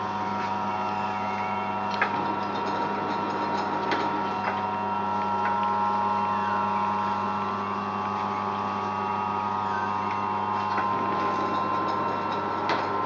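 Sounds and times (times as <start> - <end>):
metal planer humming: 0.0 - 13.0.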